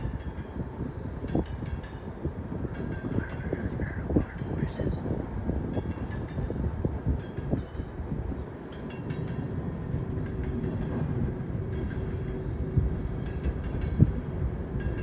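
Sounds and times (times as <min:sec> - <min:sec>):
train cars clanking: 0:00.0 - 0:15.0
train wheels rumbling on rail: 0:00.0 - 0:15.0.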